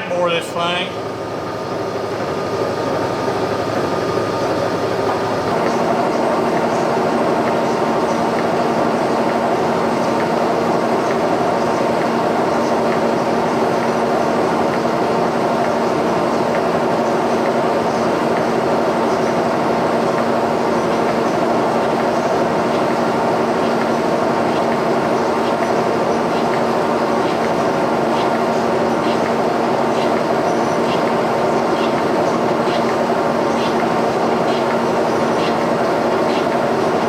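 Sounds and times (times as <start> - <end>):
boring bar motor hum and cutting: 0.0 - 37.0.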